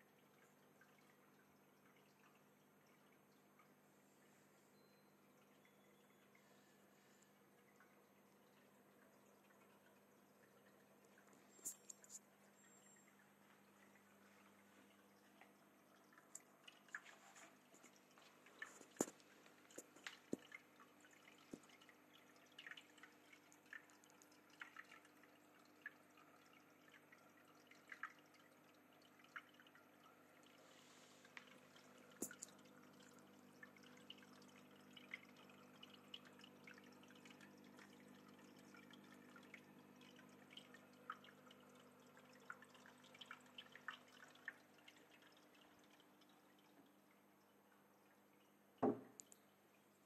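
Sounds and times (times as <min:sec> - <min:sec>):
pump hum: 0:00.0 - 0:49.1
water dripping and trickling: 0:00.0 - 0:50.0.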